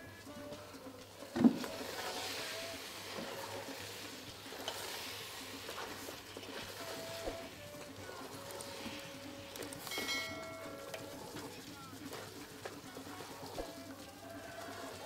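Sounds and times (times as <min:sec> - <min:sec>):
stirring thick stew: 0:00.2 - 0:15.0.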